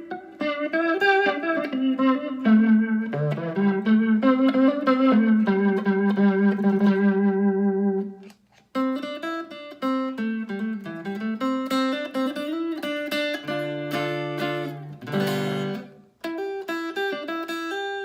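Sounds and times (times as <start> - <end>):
electric guitar melody: 0.0 - 18.0.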